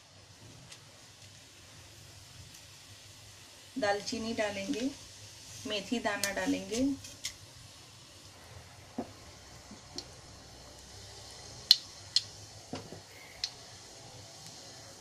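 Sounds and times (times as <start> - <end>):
faint sizzle: 0.0 - 15.0
seeds popping in hot oil: 0.6 - 15.0.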